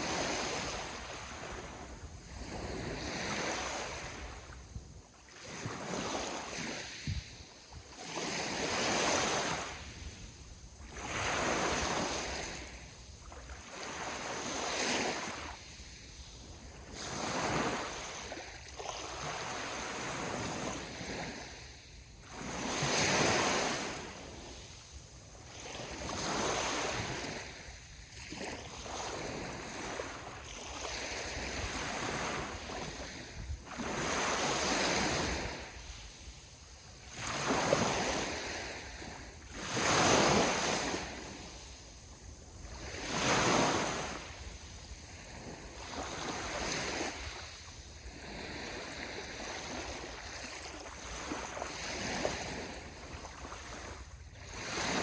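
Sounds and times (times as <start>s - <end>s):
sea waves breaking on shore: 0.0s - 55.0s
wind: 0.0s - 55.0s.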